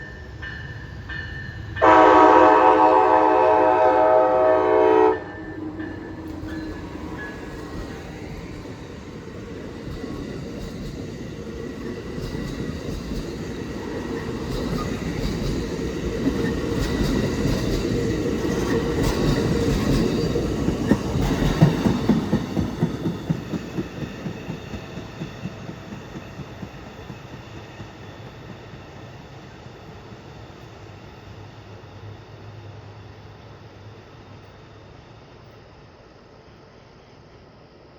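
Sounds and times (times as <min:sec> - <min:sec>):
train wheels rumbling: 0:00.0 - 0:31.4.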